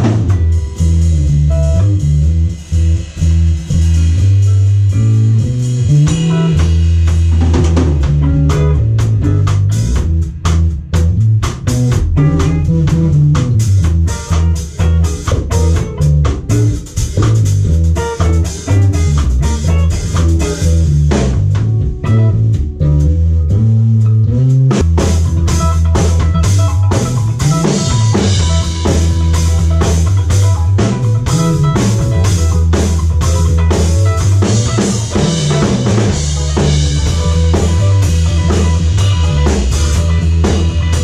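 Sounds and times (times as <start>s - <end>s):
drum kit playing: 0.0s - 41.0s
electric guitar: 0.0s - 41.0s
heavy bass line: 0.0s - 41.0s.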